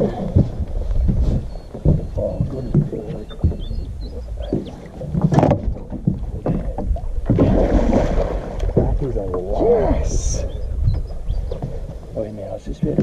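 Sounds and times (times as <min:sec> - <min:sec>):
water lapping at boat hull: 0:00.0 - 0:13.0
wind buffeting microphone: 0:00.0 - 0:13.0.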